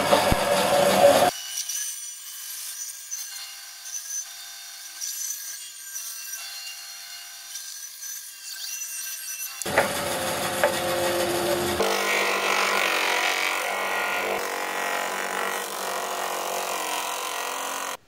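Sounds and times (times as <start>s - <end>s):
bandsaw cutting log: 0.0s - 1.5s, 4.9s - 18.0s.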